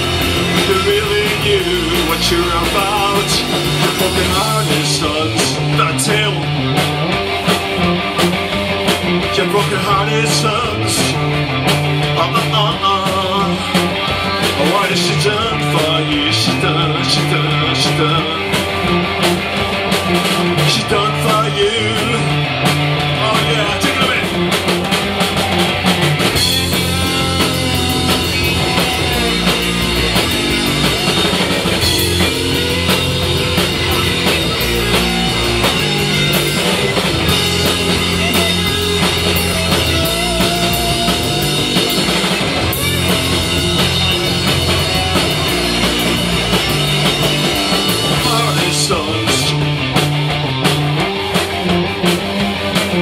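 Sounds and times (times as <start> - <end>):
punk rock band playing: 0.0 - 53.0
lead guitar bending pitch: 10.1 - 53.0.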